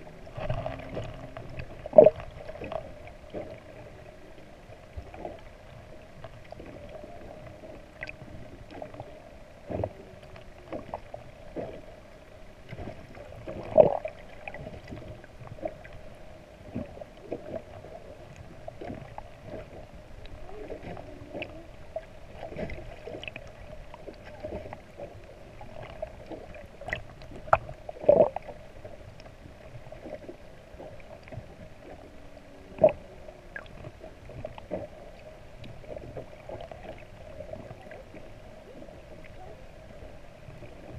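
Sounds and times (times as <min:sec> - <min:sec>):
underwater hum: 0:00.0 - 0:40.9.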